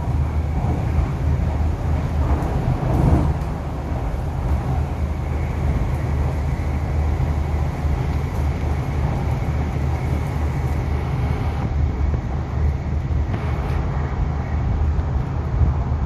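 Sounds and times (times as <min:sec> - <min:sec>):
train running at speed: 0:00.0 - 0:16.0.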